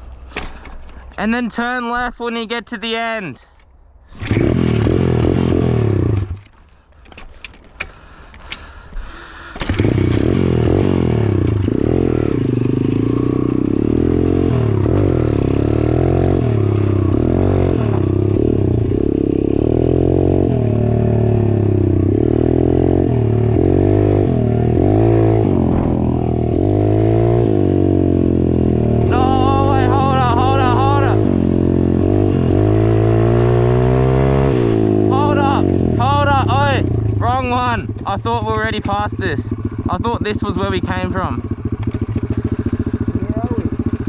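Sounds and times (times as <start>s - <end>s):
dirt bike engine: 4.1s - 44.0s.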